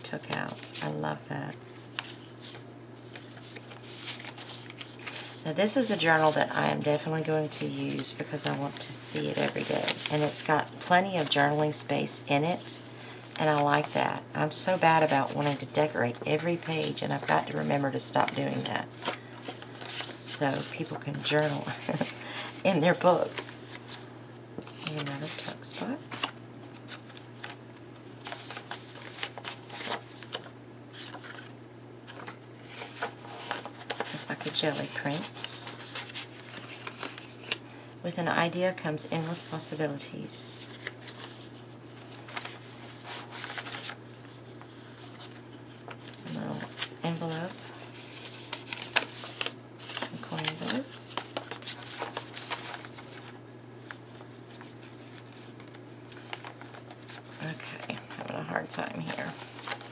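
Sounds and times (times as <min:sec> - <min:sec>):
steady low hum: 0:00.0 - 0:59.9
paper rustling and crinkling: 0:00.1 - 0:11.7, 0:14.7 - 0:24.0, 0:24.6 - 0:37.6, 0:40.4 - 0:59.9.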